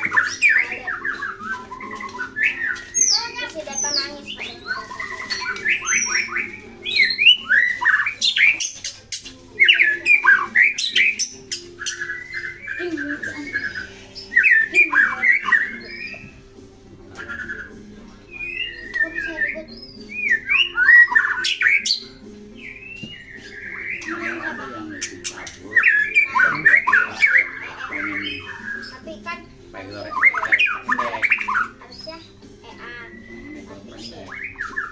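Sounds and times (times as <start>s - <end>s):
bird singing varied song: 0.0s - 34.9s.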